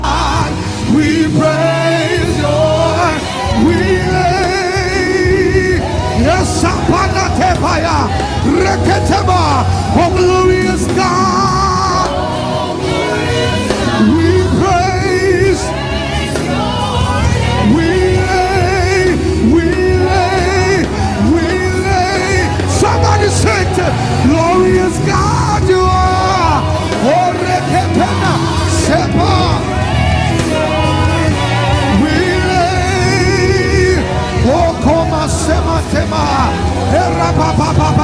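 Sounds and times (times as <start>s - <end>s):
person singing with vibrato: 0.0s - 38.0s
steady bass line: 0.0s - 38.0s.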